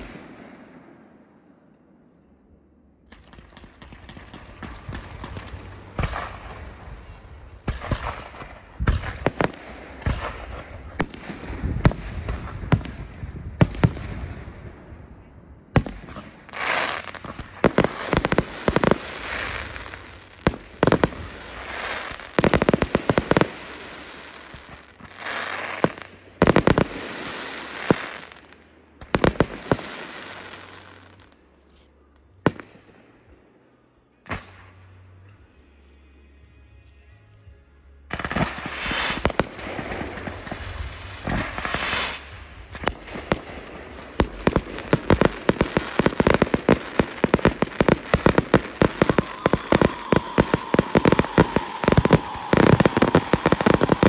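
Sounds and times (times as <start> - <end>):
fireworks bangs: 0.0 - 1.2, 3.1 - 15.1, 15.7 - 31.4, 38.1 - 54.0.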